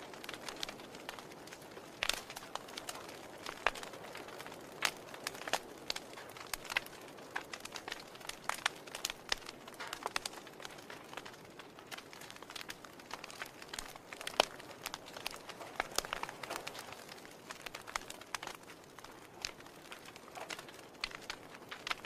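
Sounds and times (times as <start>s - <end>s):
soft steady hiss: 0.0s - 22.0s
wood fire crackling: 0.0s - 22.0s.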